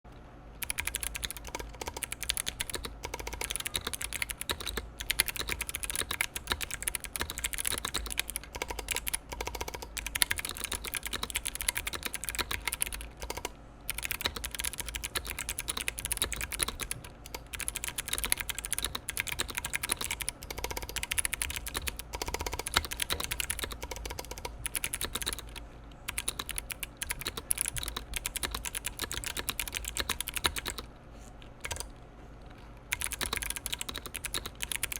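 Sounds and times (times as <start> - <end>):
mechanical keyboard typing: 0.6 - 34.9.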